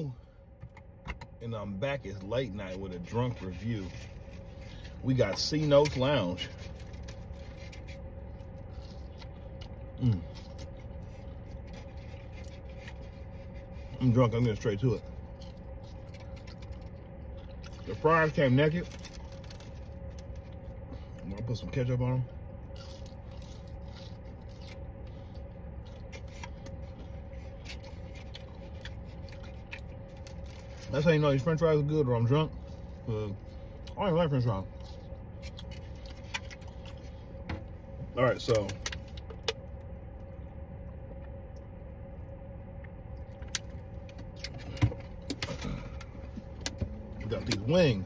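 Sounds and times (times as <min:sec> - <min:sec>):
car cabin hum: 0:00.0 - 0:48.0.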